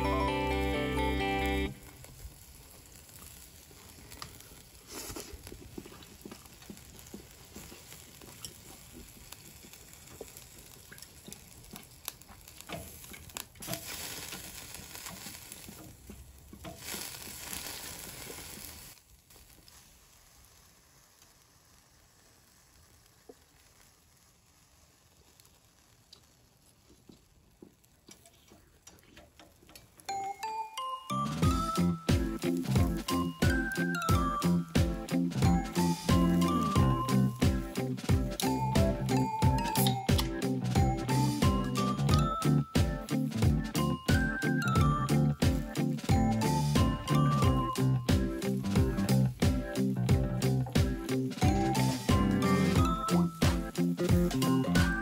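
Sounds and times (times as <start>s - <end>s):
food sizzling over charcoal: 0.0s - 55.0s.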